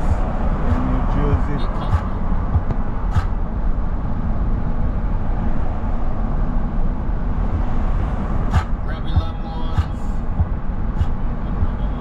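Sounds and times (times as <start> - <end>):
car driving at highway speed: 0.0 - 12.0.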